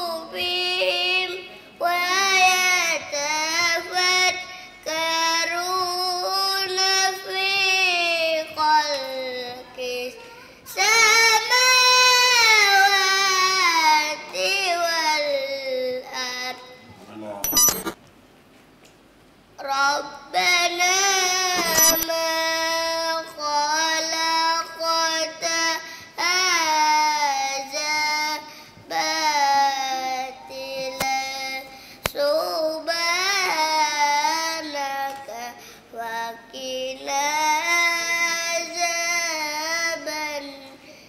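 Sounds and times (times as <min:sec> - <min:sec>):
boy chanting melodically: 0:00.0 - 0:17.0, 0:19.6 - 0:40.8.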